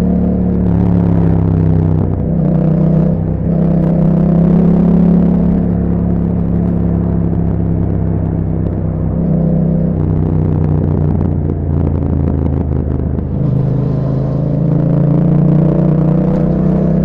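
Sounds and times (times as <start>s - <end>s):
motorcycle engine while riding: 0.0s - 17.0s.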